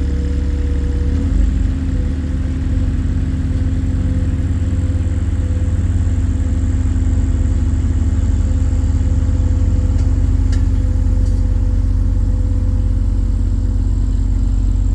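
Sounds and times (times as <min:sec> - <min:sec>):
diesel engine running steadily: 0:00.0 - 0:14.9.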